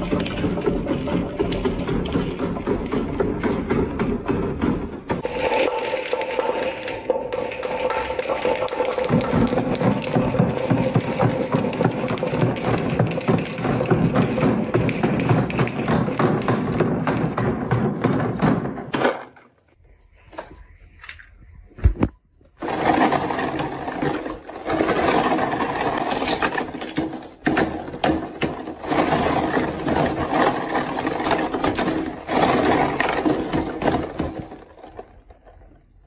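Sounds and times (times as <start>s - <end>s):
marbles rolling down wooden run: 0.0s - 19.3s, 22.6s - 36.0s.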